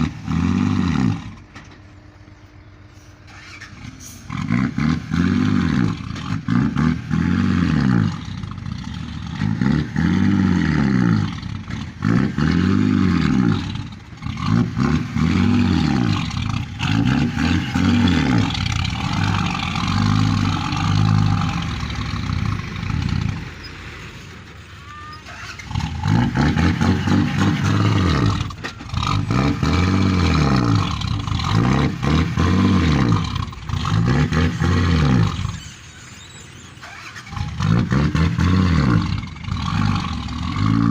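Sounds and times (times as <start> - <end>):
excavator diesel engine labouring: 0.0 - 40.9.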